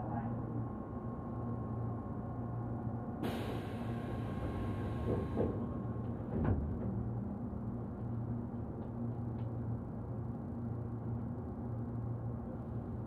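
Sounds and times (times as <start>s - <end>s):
train car low hum: 0.0s - 13.0s.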